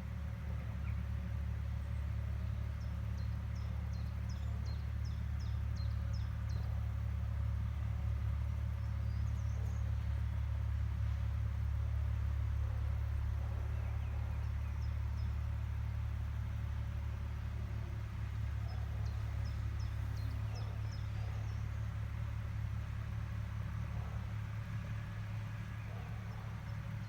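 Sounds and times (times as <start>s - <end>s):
farm machine engine droning: 0.0s - 27.0s.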